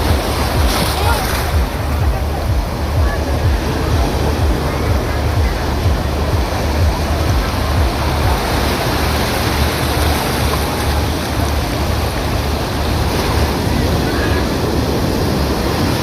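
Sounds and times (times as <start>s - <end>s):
surf washing on a beach: 0.0s - 16.0s
wind rumble on microphone: 0.0s - 16.0s.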